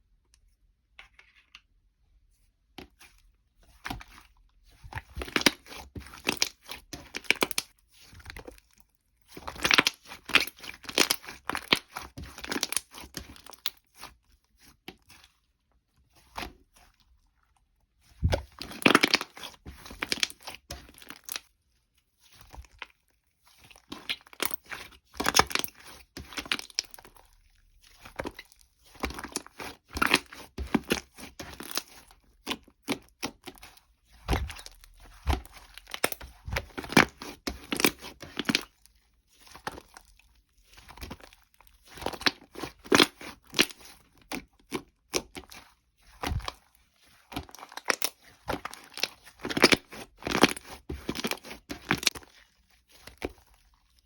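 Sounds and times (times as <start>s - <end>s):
slime squished by hand: 2.9s - 54.0s.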